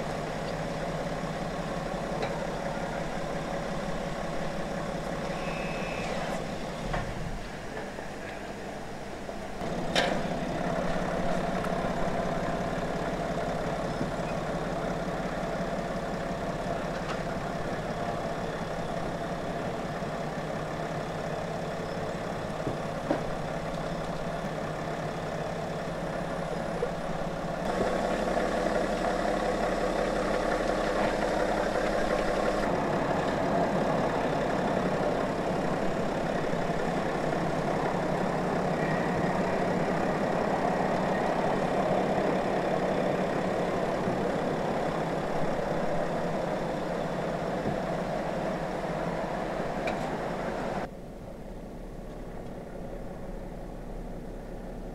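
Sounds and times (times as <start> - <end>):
car engine idling hum: 0.0 - 54.9.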